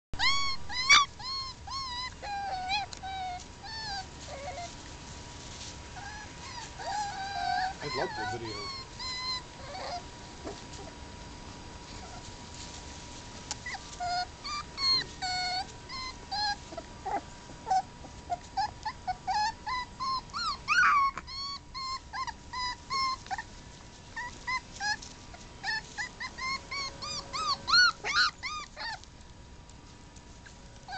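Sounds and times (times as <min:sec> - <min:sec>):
puppies yipping and whining: 0:00.2 - 0:11.1, 0:11.8 - 0:12.7, 0:13.5 - 0:29.2, 0:30.4 - 0:30.9.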